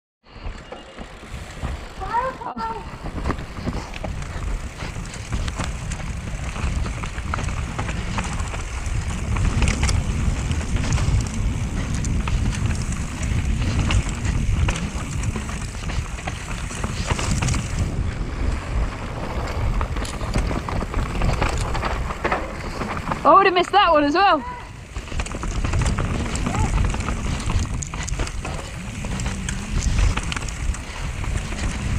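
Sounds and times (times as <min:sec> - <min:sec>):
bike rattling and clacking: 0:00.3 - 0:31.9
bike tyres rolling over dirt: 0:00.3 - 0:31.9
wind rumbling on microphone: 0:00.3 - 0:31.9.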